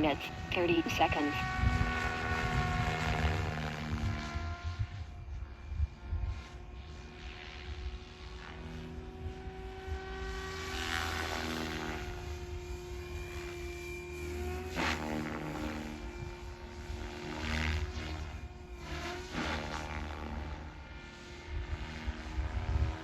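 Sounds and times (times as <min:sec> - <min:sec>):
rc helicopter motor whine: 0:00.0 - 0:23.0.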